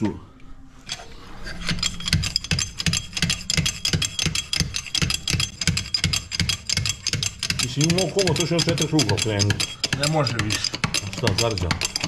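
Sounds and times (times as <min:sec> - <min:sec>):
hydraulic jack clicking and knocking: 0:01.6 - 0:12.0.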